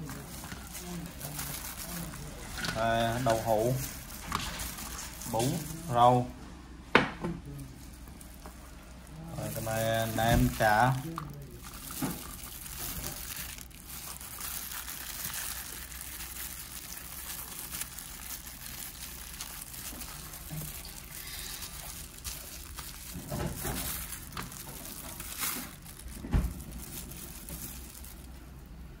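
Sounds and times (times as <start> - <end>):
plastic glove rustling: 0.0 - 6.4, 7.5 - 29.0.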